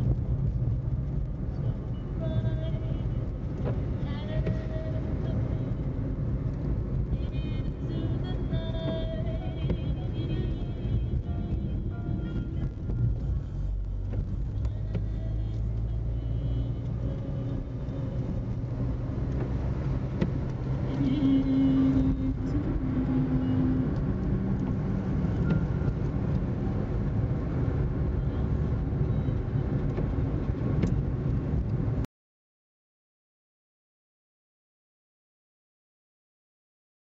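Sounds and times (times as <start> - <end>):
humming engine note: 0.0 - 31.8
car engine and road rumble: 0.0 - 32.1.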